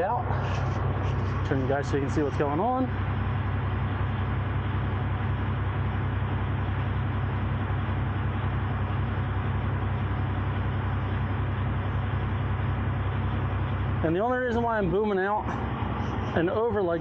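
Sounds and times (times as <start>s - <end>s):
heavy truck engine droning: 0.0s - 17.0s.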